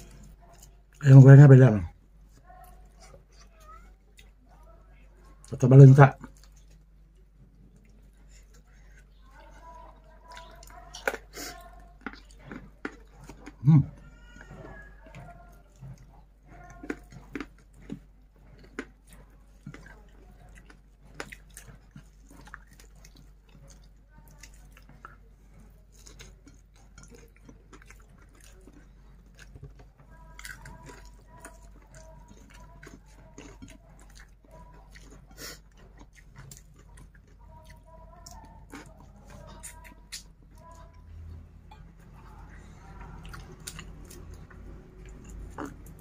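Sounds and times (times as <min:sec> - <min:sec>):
chewing and mouth smacks: 0:05.3 - 0:46.0.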